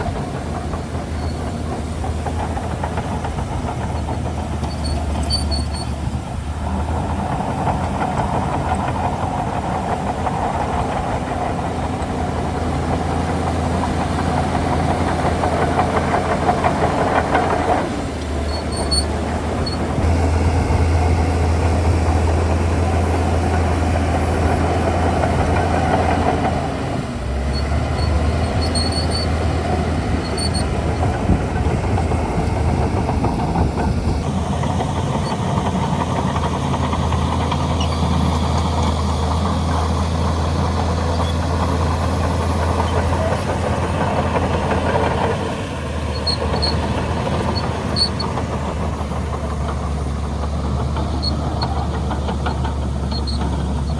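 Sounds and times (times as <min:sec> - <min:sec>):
bulldozer diesel engine humming: 0:00.0 - 0:53.9.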